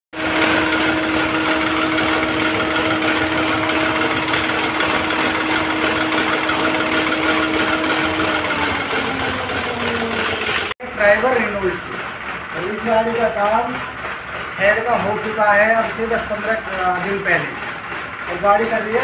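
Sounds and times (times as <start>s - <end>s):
car engine idling and misfiring: 0.2s - 19.0s.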